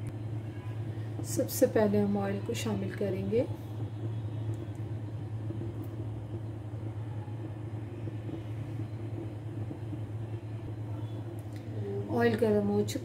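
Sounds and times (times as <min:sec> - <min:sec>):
electric hob humming: 0:00.0 - 0:13.0.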